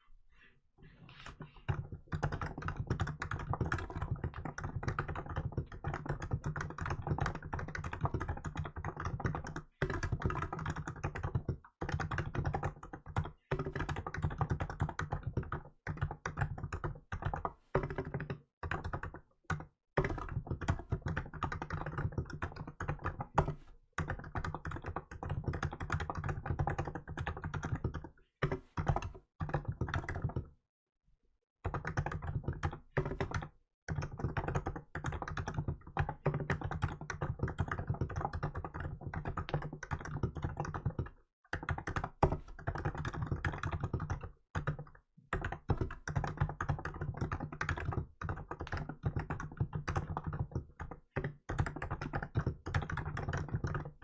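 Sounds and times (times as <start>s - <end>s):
fast keyboard typing: 1.0s - 30.5s, 31.6s - 54.0s.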